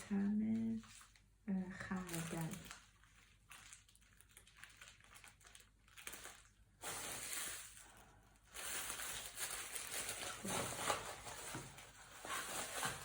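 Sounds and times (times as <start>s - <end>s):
packaging crinkling and rustling: 0.1s - 13.0s.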